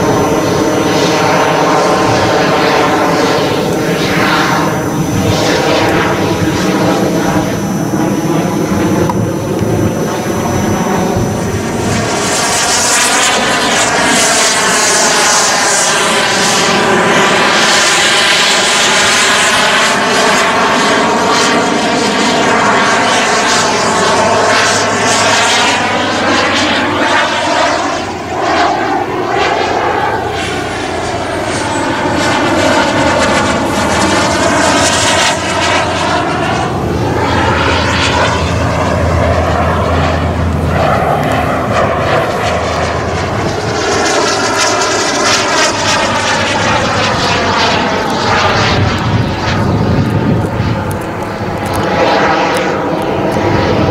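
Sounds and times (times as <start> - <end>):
model jet turbine engines: 0.0 - 53.9.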